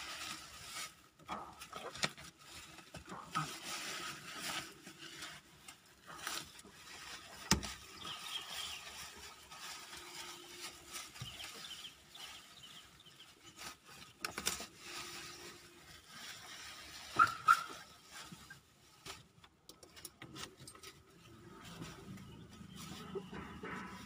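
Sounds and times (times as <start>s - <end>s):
plastic wrap rustling: 0.0s - 19.4s.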